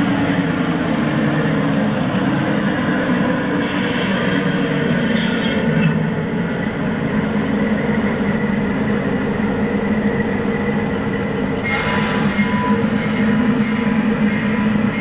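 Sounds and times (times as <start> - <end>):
miniature train rumbling on rails: 0.0 - 15.0.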